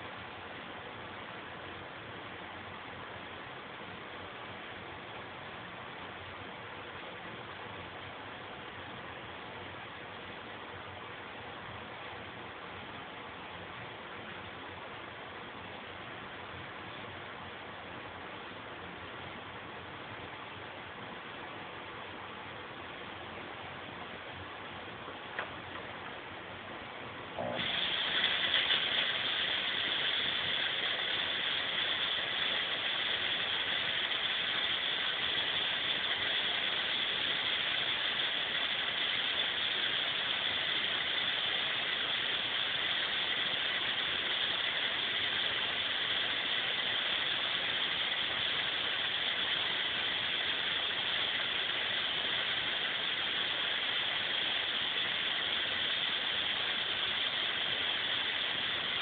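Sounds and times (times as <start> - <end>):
fog machine hissing: 0.0 - 59.0.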